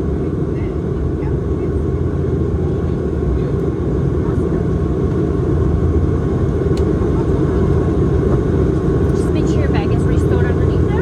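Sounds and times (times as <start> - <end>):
turboprop engines droning: 0.0 - 11.0.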